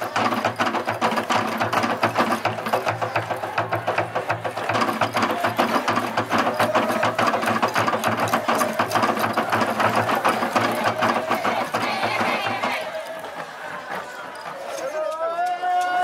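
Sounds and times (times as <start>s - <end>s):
fast dance percussion: 0.0s - 14.8s
held voices: 0.0s - 16.0s.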